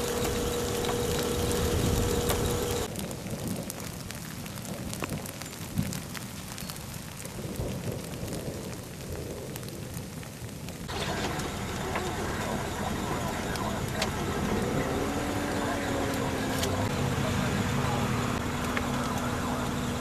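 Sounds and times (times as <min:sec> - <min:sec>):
outdoor background noise: 0:00.0 - 0:20.0
rain on gravel: 0:00.0 - 0:20.0.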